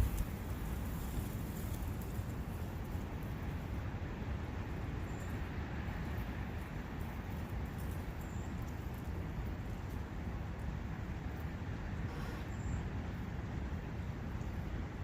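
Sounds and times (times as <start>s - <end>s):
forest brook: 0.0s - 15.0s.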